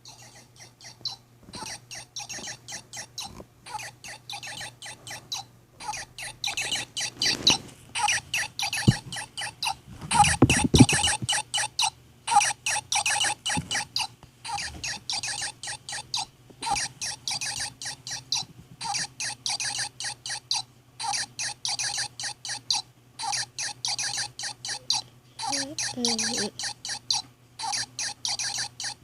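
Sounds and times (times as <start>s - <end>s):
rapid high squeaks: 0.0s - 29.0s.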